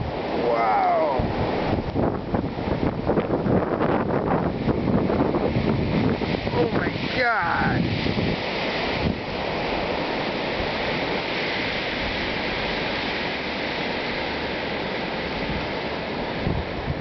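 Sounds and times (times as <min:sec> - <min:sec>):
strong blizzard wind: 0:00.0 - 0:17.0.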